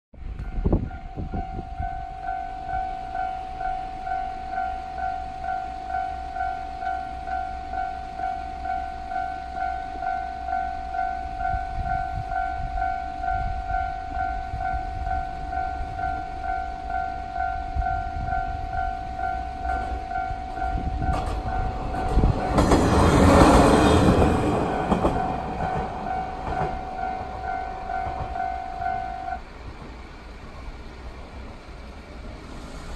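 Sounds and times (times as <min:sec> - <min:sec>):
train passing over rails: 0:00.2 - 0:32.9
level crossing bell ringing: 0:00.5 - 0:22.6, 0:24.7 - 0:29.4.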